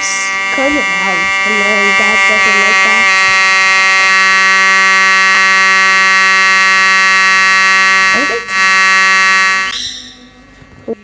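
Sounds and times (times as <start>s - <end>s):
fire alarm horn tone: 0.0s - 10.3s.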